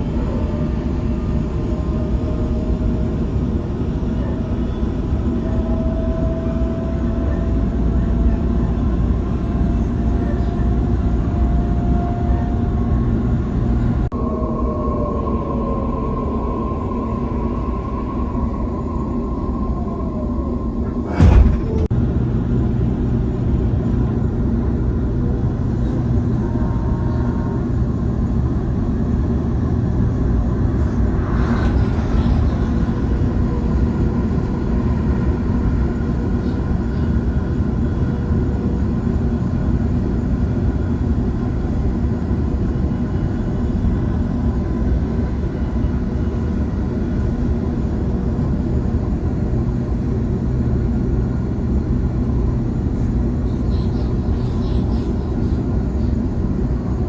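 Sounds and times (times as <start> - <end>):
train rumble on track: 0.0 - 57.0.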